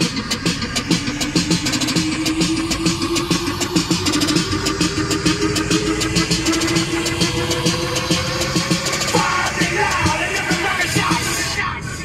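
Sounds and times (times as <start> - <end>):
car engine and road noise: 0.0 - 12.0
music with fast drum beat: 0.0 - 12.0.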